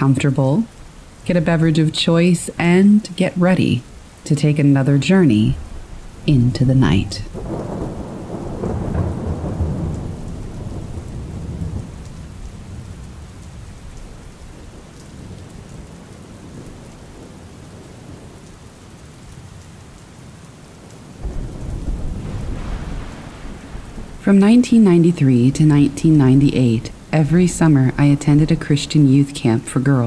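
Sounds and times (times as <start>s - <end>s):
thunder rumbling: 0.0s - 18.5s, 21.0s - 30.0s
steady rain falling: 0.0s - 30.0s.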